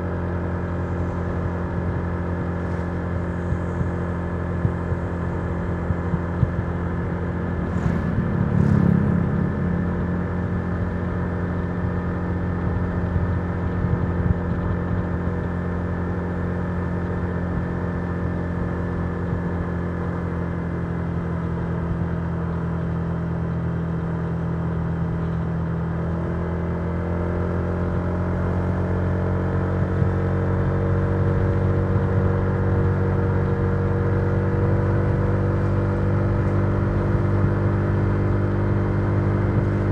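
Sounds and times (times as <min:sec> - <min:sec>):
scooter engine cruising: 0:00.0 - 0:39.9.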